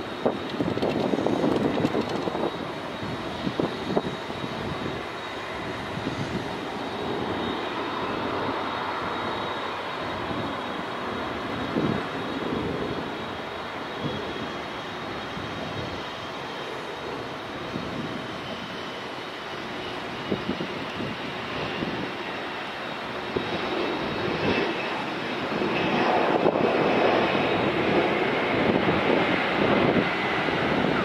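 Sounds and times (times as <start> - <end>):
jet engines with high whine: 0.0 - 31.0.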